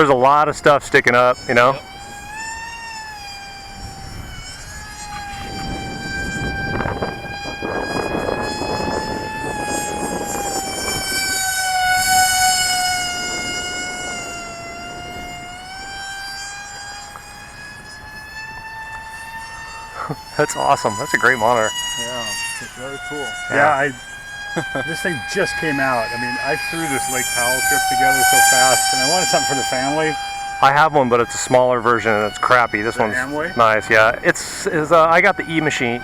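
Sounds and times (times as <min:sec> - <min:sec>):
electric propeller whining: 0:00.0 - 0:36.0
wind rumble on microphone: 0:00.0 - 0:36.0.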